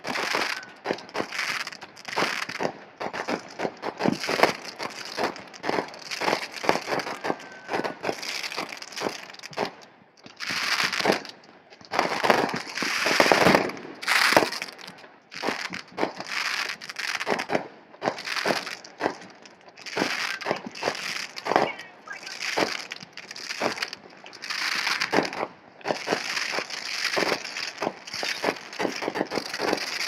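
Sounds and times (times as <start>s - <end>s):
fireworks popping and banging: 0.0s - 30.0s.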